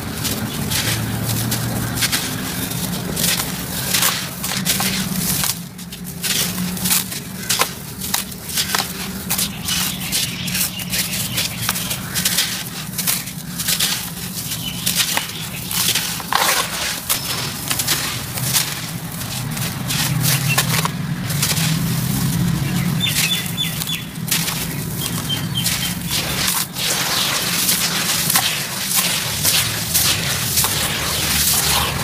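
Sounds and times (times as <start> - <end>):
crumbs and powder pouring: 0.0 - 32.0
gritty crunching of cement lumps: 0.0 - 32.0.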